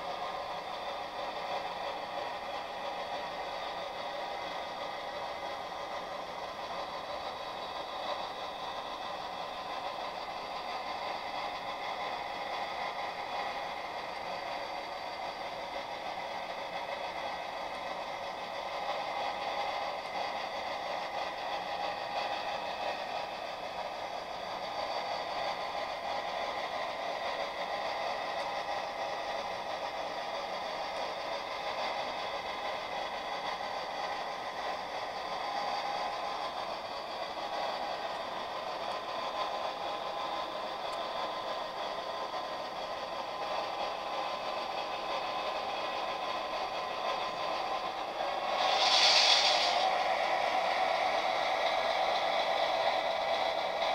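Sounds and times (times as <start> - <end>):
model train whirring and clattering: 0.0 - 53.9.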